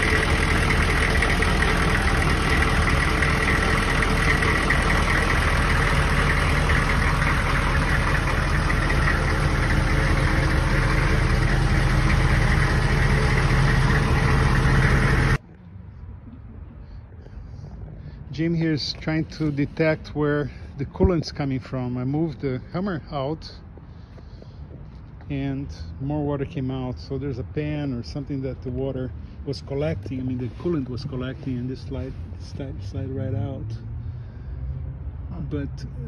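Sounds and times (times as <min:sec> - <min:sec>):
diesel engine idling: 0:00.0 - 0:15.4, 0:16.8 - 0:36.0.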